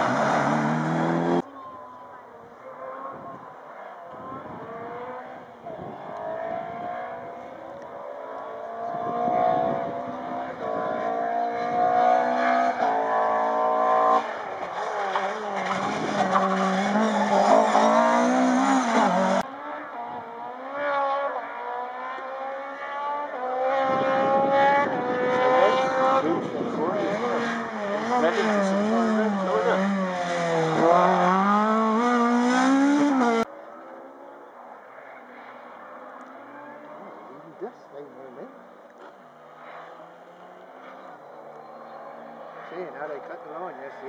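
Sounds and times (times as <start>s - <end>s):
rally car engine accelerating: 0.0s - 1.5s, 2.7s - 44.0s
second rally car revving: 0.0s - 1.5s, 2.6s - 44.0s.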